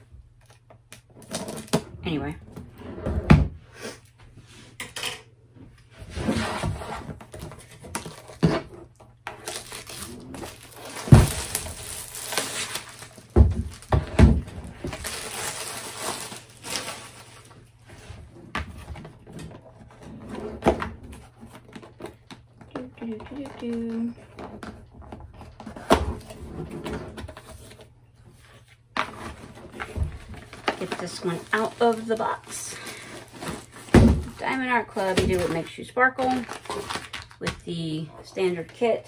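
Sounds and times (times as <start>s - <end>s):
cardboard and plastic rustling: 6.0s - 39.0s.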